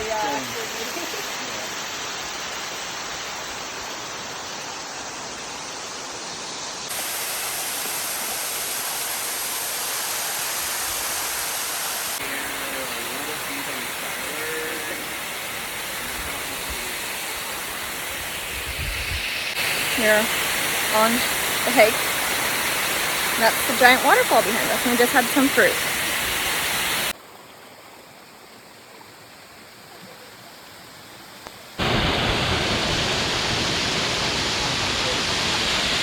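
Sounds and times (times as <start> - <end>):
waterfall rushing: 0.0 - 27.2, 31.8 - 36.0.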